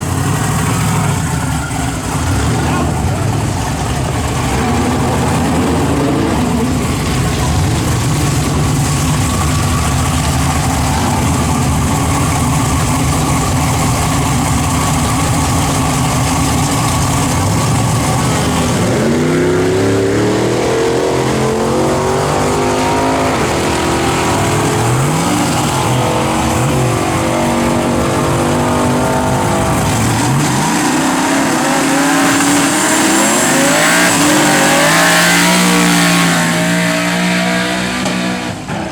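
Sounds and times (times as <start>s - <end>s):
pickup engine accelerating: 0.0s - 38.9s.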